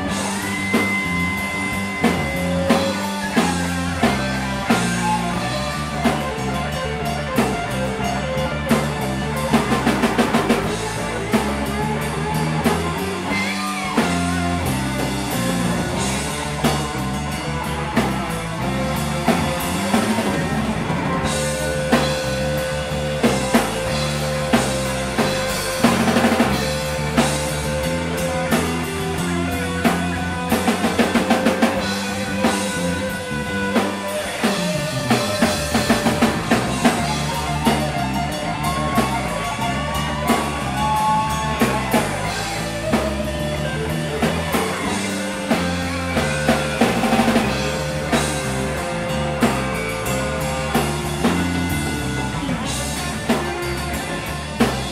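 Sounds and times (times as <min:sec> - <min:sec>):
bass guitar: 0:00.0 - 0:54.9
drum kit: 0:00.0 - 0:54.9
electric guitar lead: 0:00.0 - 0:54.9.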